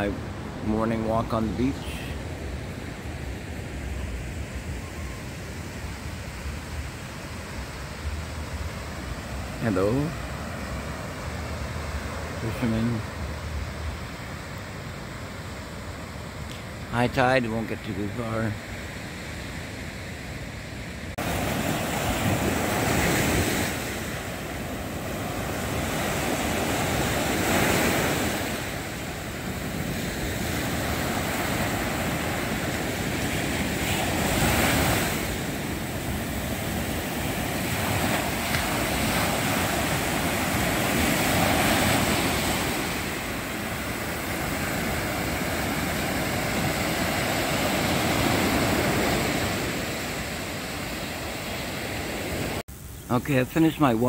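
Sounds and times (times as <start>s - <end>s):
sea waves breaking on a beach: 0.0s - 54.0s.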